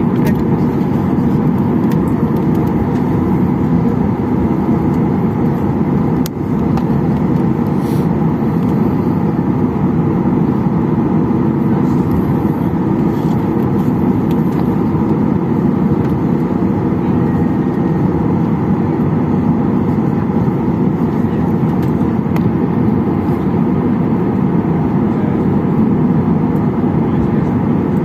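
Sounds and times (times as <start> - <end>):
jet engines rumbling in cabin: 0.0 - 28.0.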